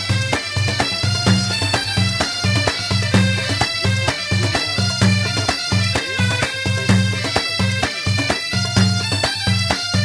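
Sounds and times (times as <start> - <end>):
regular beat: 0.0 - 10.0
wind instrument melody: 0.0 - 10.0.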